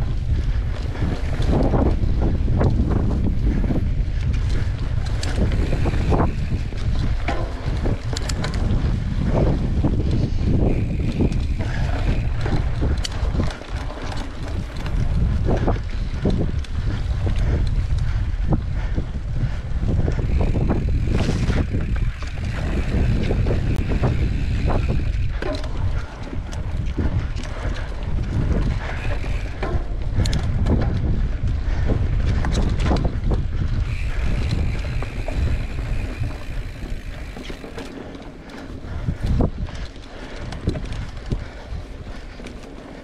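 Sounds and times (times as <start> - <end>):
bike rattling over rough ground: 0.0 - 43.0
wind buffeting microphone: 0.0 - 43.0.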